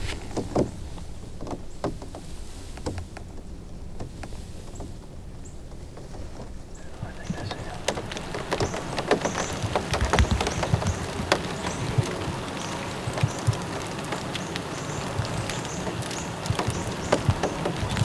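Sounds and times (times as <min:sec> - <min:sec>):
light rain pattering: 0:00.0 - 0:18.0
raindrops tapping close by: 0:00.0 - 0:18.0.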